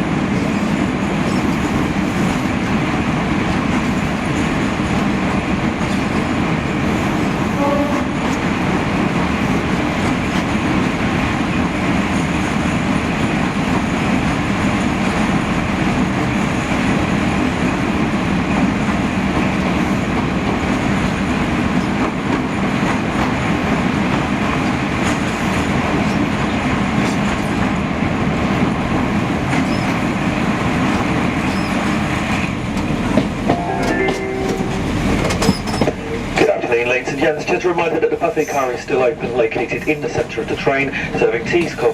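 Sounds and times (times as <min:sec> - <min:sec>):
train rumbling from inside coach: 0:00.0 - 0:41.9.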